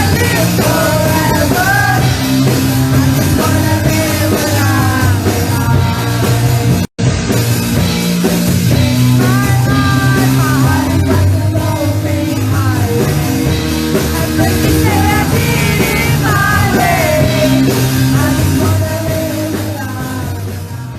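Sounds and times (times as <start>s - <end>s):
person singing: 0.0s - 6.9s, 9.2s - 20.9s
rock band playing: 0.0s - 20.9s.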